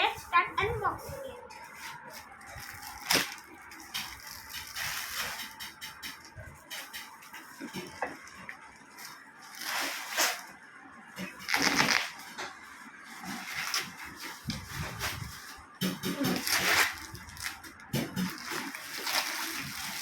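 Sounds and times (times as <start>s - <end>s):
cardboard and plastic rustling: 0.0s - 20.0s.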